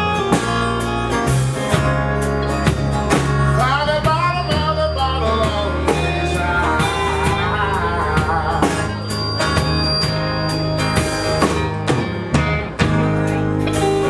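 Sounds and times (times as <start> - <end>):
live band playing: 0.0 - 14.0
sliding lead melody: 0.0 - 14.0.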